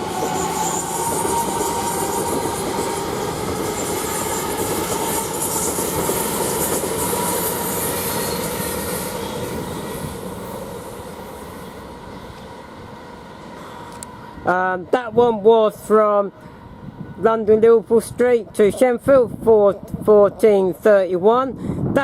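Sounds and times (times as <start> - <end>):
electric train passing: 0.0 - 21.3.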